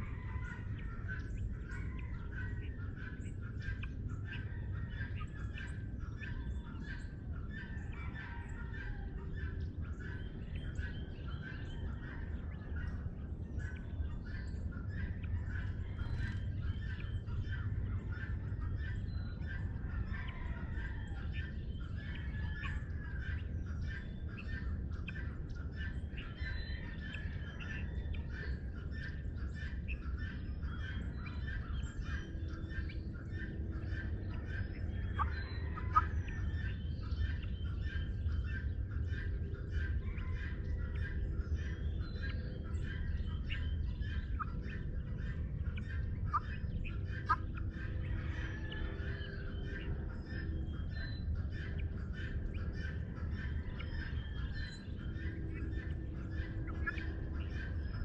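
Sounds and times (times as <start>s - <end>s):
birds chirping and calling: 0.0s - 58.0s
steady low rumble: 0.0s - 58.0s.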